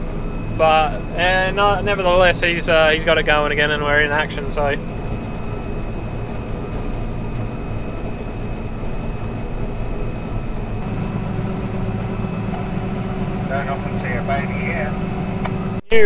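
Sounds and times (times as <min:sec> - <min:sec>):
combine harvester drone: 0:00.0 - 0:16.0
faint high whine: 0:00.0 - 0:16.0.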